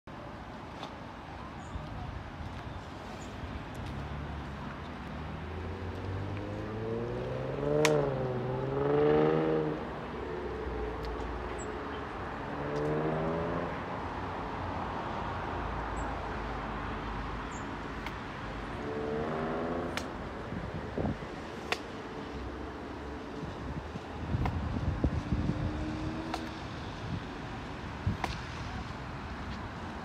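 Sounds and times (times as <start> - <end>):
low traffic rumble: 0.1 - 30.0
cars driving by: 2.4 - 30.0.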